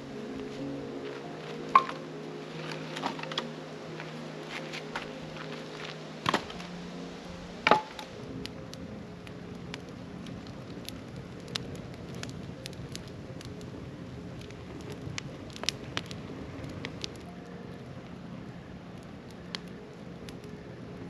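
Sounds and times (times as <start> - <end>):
campfire crackling: 0.0 - 21.0
soft background music: 0.0 - 21.0.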